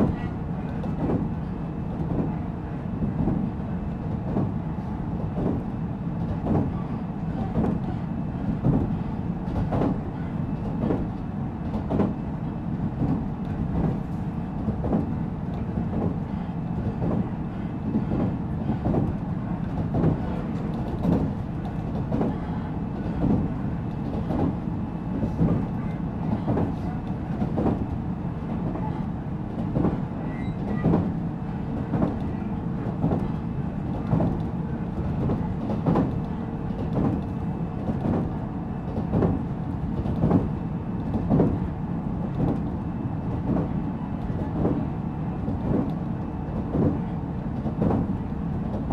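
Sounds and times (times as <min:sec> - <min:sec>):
train wheels rumbling: 0:00.0 - 0:48.9
rail-joint clacks: 0:05.2 - 0:12.2, 0:13.0 - 0:22.4, 0:23.0 - 0:24.6, 0:25.2 - 0:28.0, 0:28.6 - 0:48.9.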